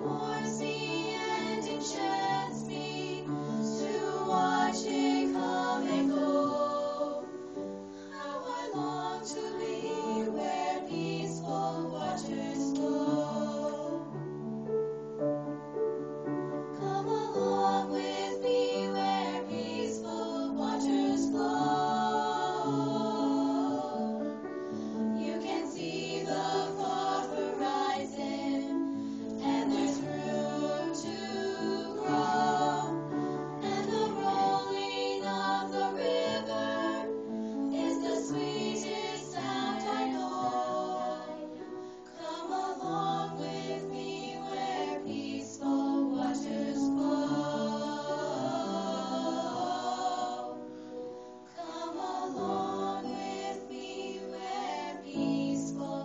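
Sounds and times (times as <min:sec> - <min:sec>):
young singers singing in harmony: 0:00.0 - 0:15.4, 0:16.2 - 0:56.0.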